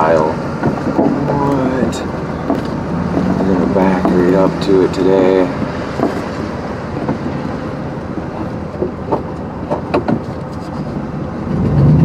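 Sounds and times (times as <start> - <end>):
knocks and rattles: 0.0 - 10.8
truck engine low rumble: 0.0 - 12.0.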